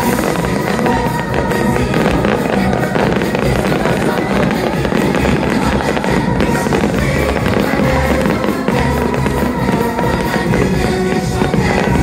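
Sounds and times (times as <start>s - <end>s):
fireworks bursting and crackling: 0.0s - 12.0s
loud show music: 0.0s - 12.0s.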